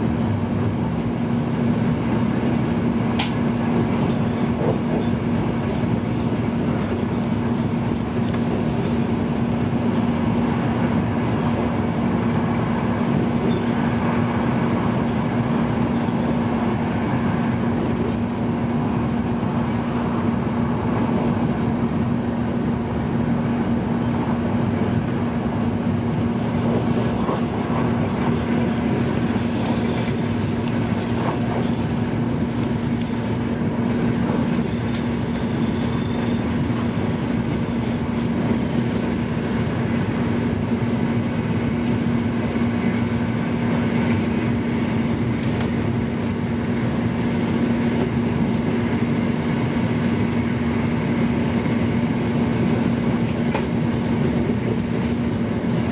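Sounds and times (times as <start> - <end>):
constant low hum: 0.0 - 55.9
train rumble inside passenger car: 0.0 - 55.9.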